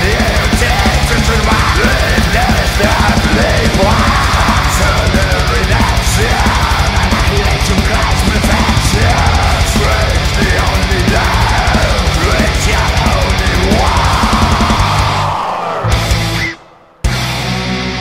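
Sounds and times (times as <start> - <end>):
double-bass drumming: 0.0 - 17.6
distorted guitars: 0.0 - 18.0.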